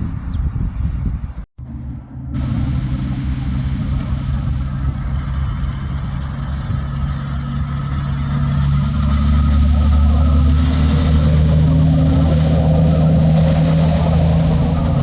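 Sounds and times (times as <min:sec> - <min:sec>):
truck engine running: 0:01.6 - 0:15.0.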